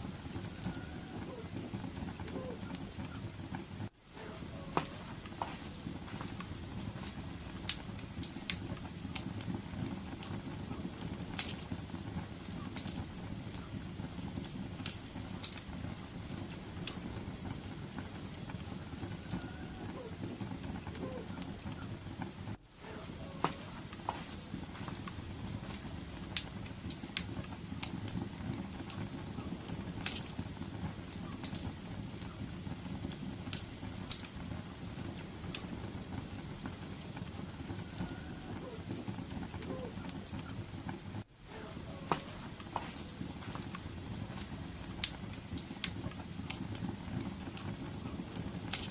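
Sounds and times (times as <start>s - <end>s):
low rumble of burning flames: 0.0s - 48.9s
wood fire popping: 0.0s - 48.9s.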